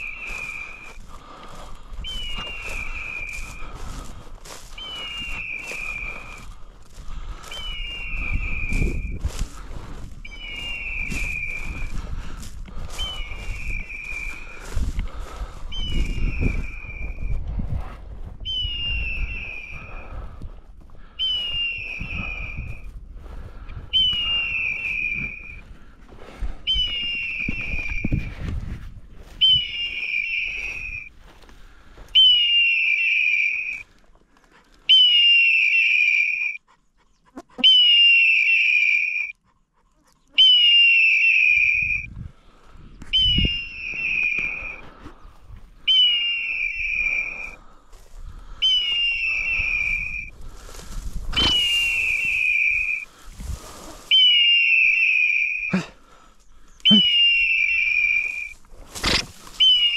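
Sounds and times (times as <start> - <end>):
rustling of grass: 0.0 - 34.9, 41.8 - 59.9.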